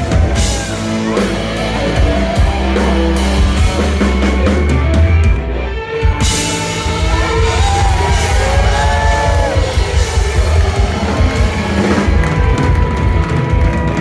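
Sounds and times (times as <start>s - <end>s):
live country-rock band: 0.0s - 14.0s.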